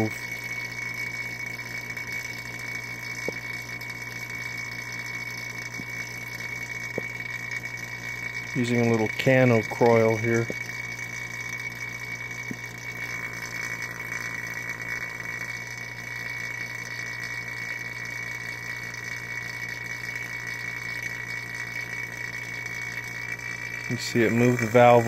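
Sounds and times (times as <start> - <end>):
vacuum pump humming and whining: 0.0 - 25.0.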